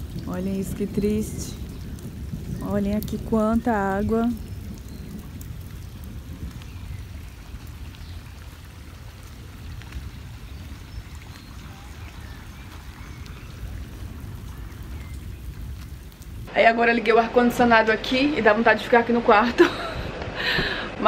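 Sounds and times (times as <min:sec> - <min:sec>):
rain patter: 0:00.0 - 0:21.0
running storm water: 0:00.0 - 0:21.0
wind rumble on microphone: 0:00.0 - 0:21.0.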